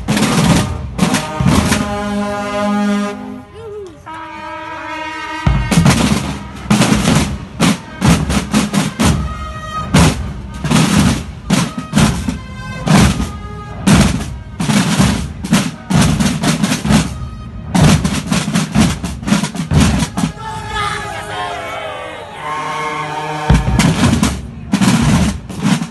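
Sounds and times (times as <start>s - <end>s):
marching drum band: 0.0s - 3.1s, 5.0s - 22.0s, 23.4s - 25.9s.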